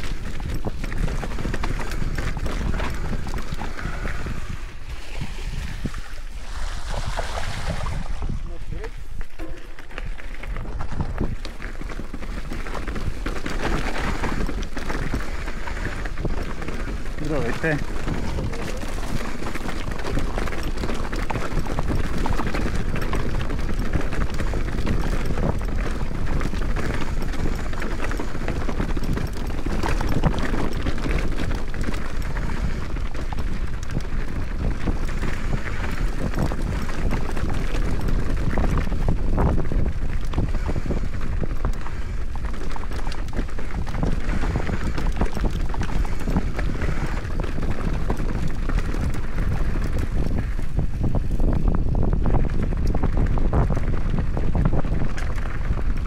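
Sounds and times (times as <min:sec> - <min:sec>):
bike rattling and knocking: 0:00.0 - 0:04.7, 0:08.8 - 0:56.0
bike tyre noise: 0:00.0 - 0:56.0
wind noise on microphone: 0:00.0 - 0:56.0.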